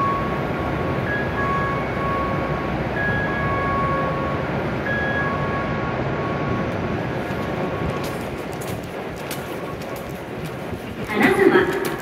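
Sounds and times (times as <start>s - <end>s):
rushing hum: 0.0s - 12.0s.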